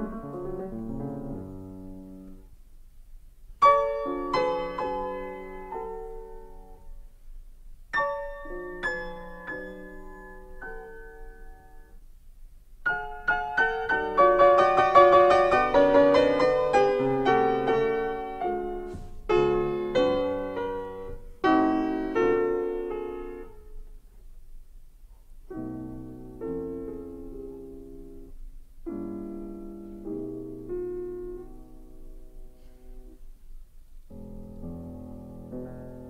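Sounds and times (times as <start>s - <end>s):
slow solo piano: 0.0s - 12.2s, 12.8s - 36.0s.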